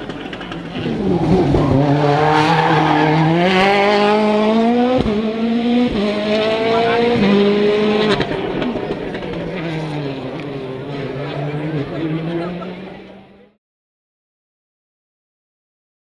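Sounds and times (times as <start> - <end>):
rally car engine accelerating: 0.0 - 13.6.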